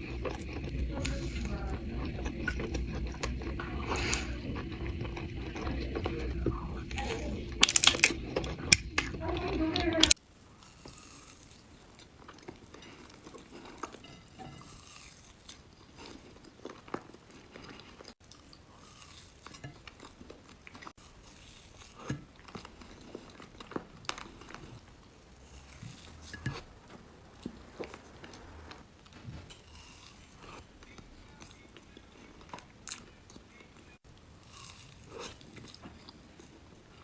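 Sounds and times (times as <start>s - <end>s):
soft chewing and mouth sounds: 0.0s - 37.0s.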